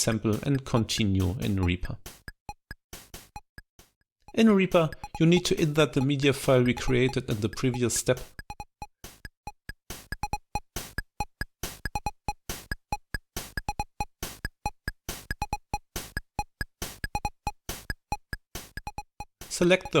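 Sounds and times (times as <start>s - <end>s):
clicky percussive hits: 0.0s - 20.0s
staccato synthesizer blips: 0.0s - 20.0s.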